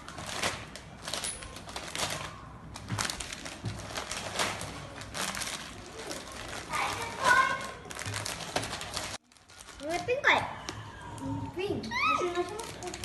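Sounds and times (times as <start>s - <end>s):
plastic snack packet crinkling: 0.0s - 10.2s, 12.3s - 13.0s.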